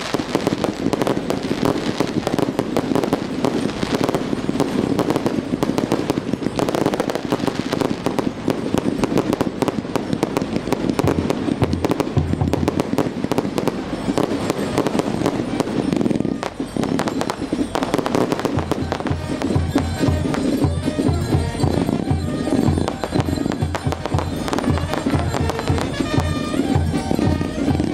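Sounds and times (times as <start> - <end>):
fireworks crackling and banging: 0.0 - 27.9.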